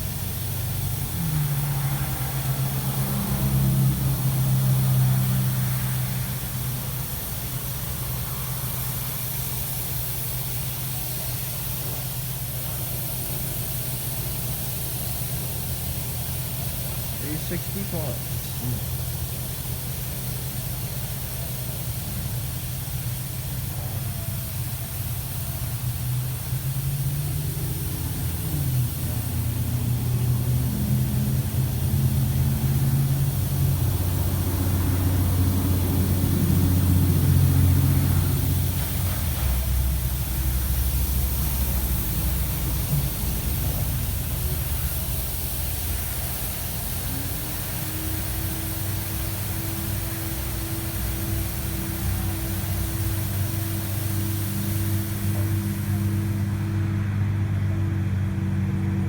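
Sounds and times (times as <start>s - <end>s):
car wash spray hissing: 0.0s - 59.0s
pumps and gantry humming: 0.0s - 59.0s.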